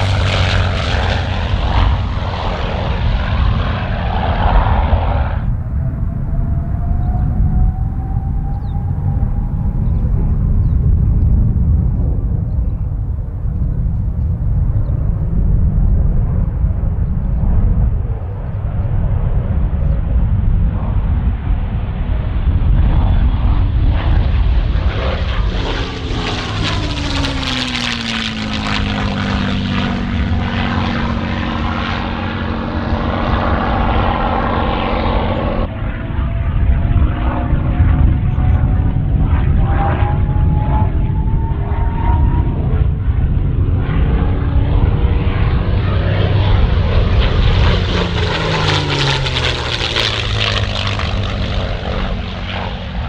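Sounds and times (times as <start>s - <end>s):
aircraft engine and propeller passing: 0.0s - 53.0s.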